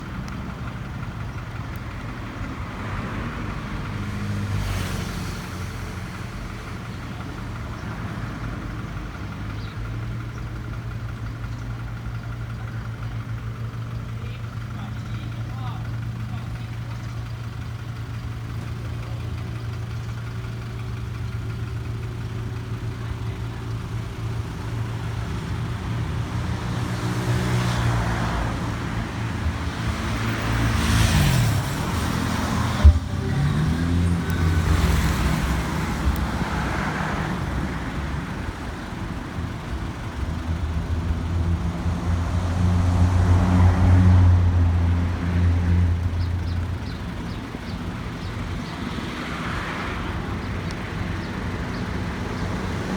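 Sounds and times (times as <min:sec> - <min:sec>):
road traffic: 0:00.0 - 0:52.9
vehicle engine running: 0:00.0 - 0:52.9.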